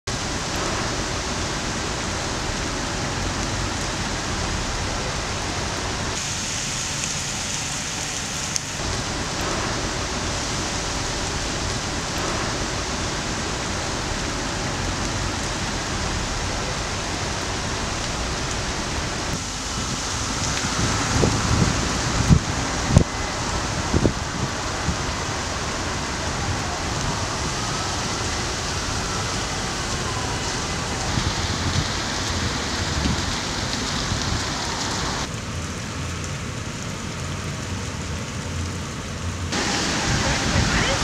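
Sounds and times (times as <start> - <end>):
storm rushing noise: 0.1 - 35.3, 39.5 - 41.0
wet snow and rain falling: 0.1 - 41.0.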